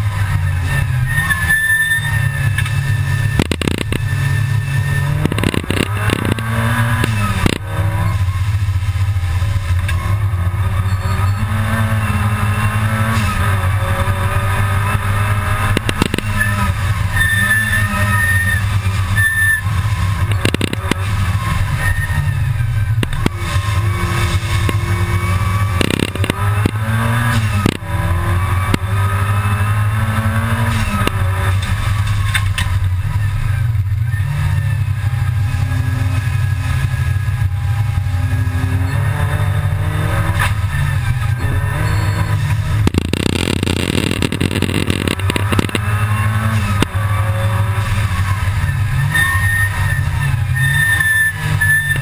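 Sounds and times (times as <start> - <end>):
race car engine from inside cabin: 0.0 - 52.0.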